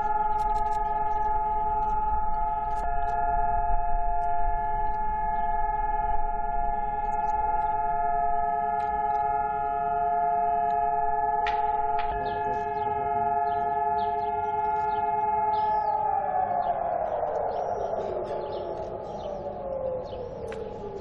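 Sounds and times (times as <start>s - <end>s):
civil defence siren wailing: 0.0s - 21.0s.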